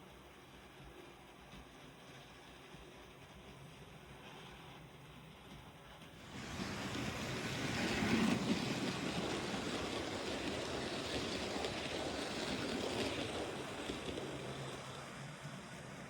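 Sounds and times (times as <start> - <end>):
model train rumbling on track: 0.0 - 16.0.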